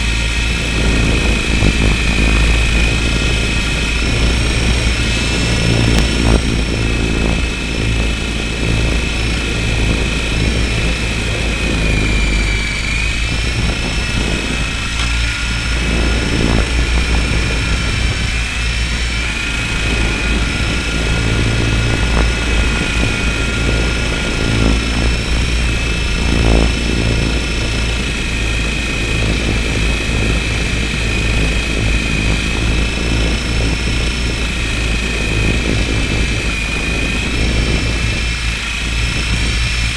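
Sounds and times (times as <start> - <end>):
helicopter motor whine: 0.0 - 39.9
rotor buffeting rumble: 0.0 - 39.9.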